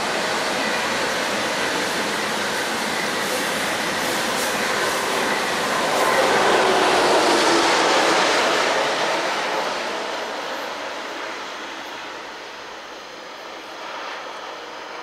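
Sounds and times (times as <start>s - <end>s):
train wheels rushing on rail: 0.0s - 15.0s.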